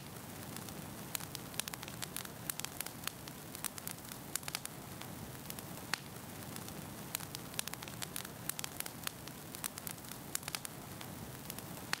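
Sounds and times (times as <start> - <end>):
sharp crackles and pops: 0.0 - 12.0
steady hiss: 0.0 - 12.0.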